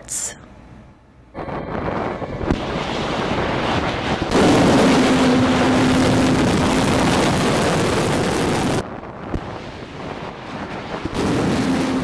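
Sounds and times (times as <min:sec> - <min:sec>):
steady hum: 0:00.0 - 0:12.0
rocket motor roaring: 0:01.3 - 0:12.0.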